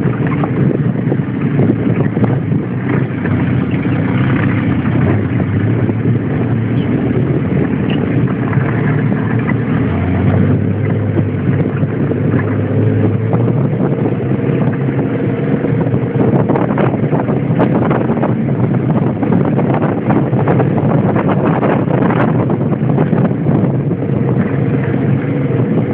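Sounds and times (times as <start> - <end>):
buggy engine running: 0.0 - 25.9.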